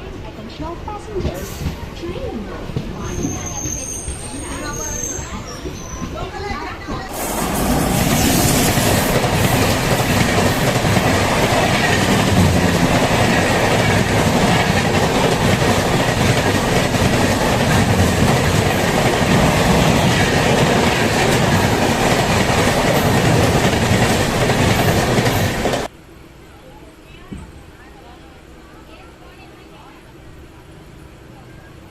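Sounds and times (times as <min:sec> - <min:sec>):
train wheel and rail noise: 0:00.0 - 0:31.9.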